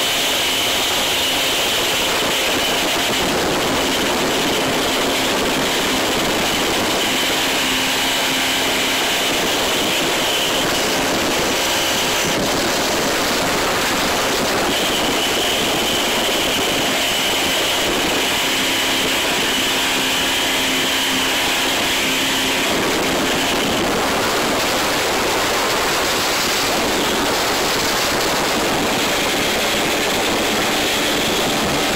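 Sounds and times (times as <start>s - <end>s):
hull and spray noise: 0.0s - 31.9s
powerboat engine drone: 0.0s - 31.9s
wind buffeting microphone: 0.0s - 31.9s.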